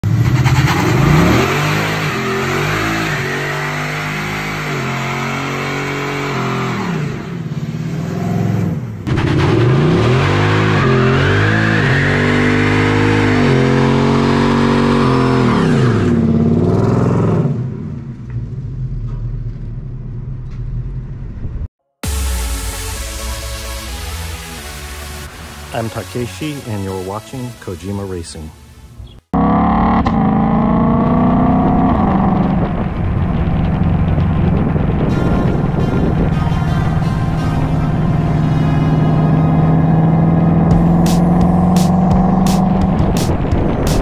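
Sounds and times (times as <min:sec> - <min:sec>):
car engine revving: 0:00.0 - 0:21.5, 0:29.3 - 0:44.0.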